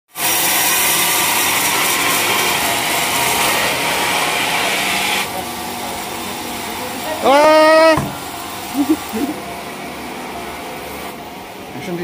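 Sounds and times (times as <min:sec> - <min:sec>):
band saw cutting log: 0:00.1 - 0:11.4.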